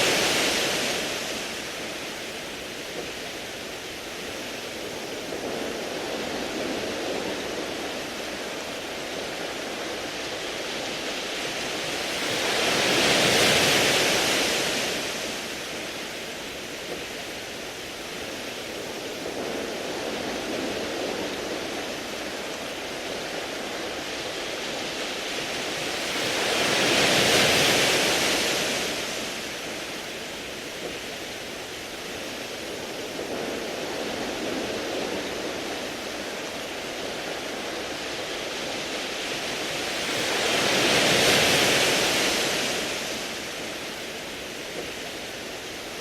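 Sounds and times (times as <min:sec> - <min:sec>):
waves washing over pebbles: 0:00.0 - 0:46.0.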